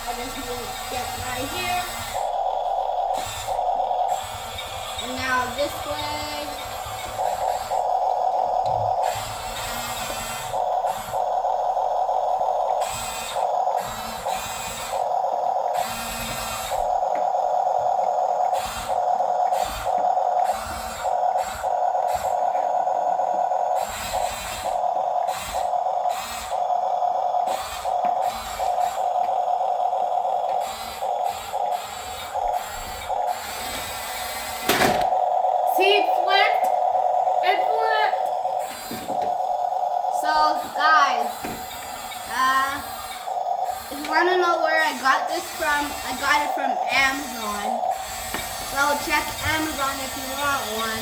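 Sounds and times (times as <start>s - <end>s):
steady toy hum: 0.0s - 51.0s
toy bulldozer motors whining: 0.0s - 51.0s.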